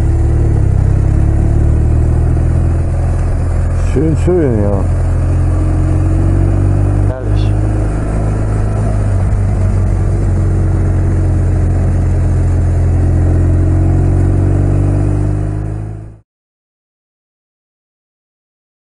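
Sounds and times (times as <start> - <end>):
motorcycle engine droning: 0.0 - 16.2.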